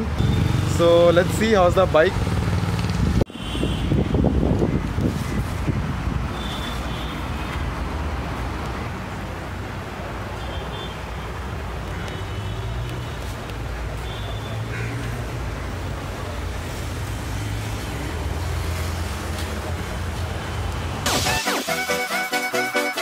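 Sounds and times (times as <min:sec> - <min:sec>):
low rumble of road traffic: 0:00.0 - 0:21.1.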